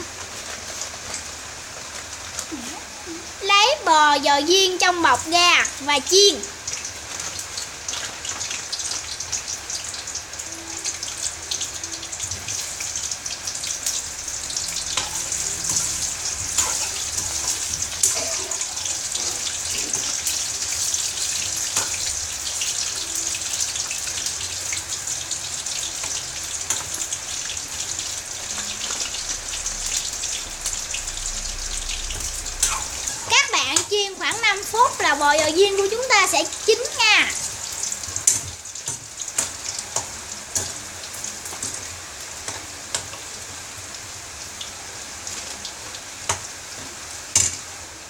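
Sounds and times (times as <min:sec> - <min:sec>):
oil sizzling and popping: 0:00.0 - 0:48.0
rain: 0:00.0 - 0:48.0.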